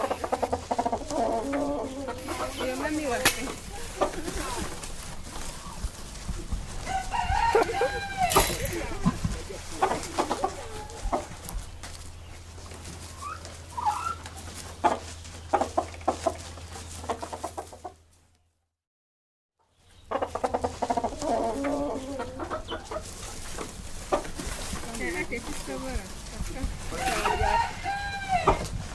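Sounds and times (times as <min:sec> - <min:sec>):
chickens clucking: 0:00.0 - 0:18.1, 0:19.8 - 0:28.9.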